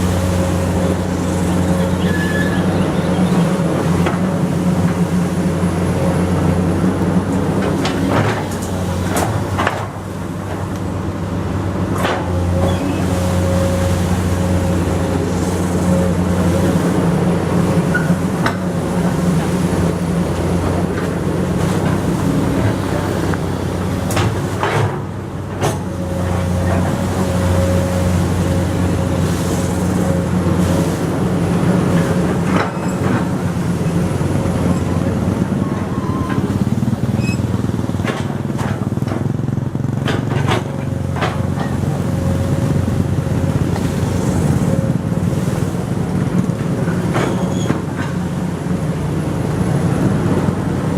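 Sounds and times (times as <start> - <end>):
excavator diesel engine working: 0.0 - 50.9.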